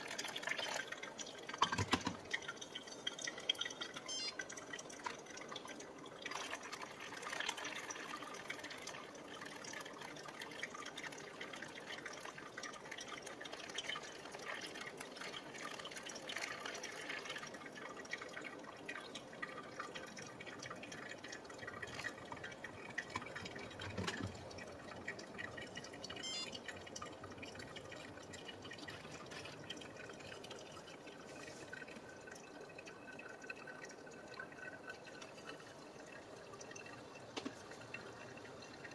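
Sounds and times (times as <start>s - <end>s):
coffee trickling and dripping: 0.0s - 38.9s
hot water pouring onto coffee grounds: 0.0s - 38.9s.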